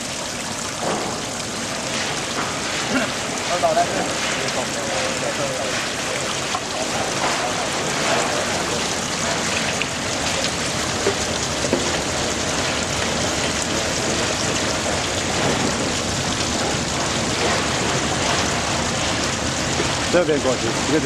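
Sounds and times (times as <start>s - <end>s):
water splashing over deck: 0.0s - 21.0s.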